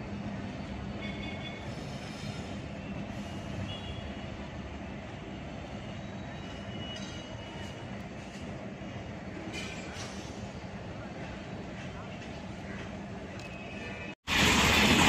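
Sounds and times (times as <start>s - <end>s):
train coaches rumbling on track: 0.0s - 15.0s.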